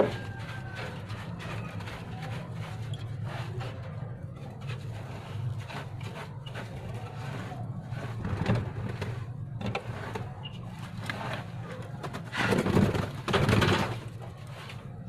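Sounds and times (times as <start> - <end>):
brush scrubbing: 0.0 - 15.0.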